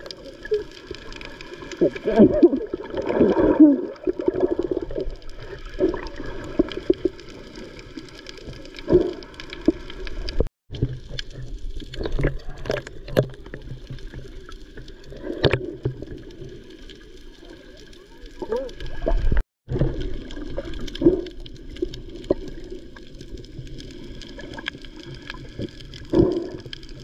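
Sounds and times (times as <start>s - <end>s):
small underwater clicks: 0.0s - 3.2s, 3.9s - 27.0s
muffled underwater sloshing: 0.0s - 27.0s.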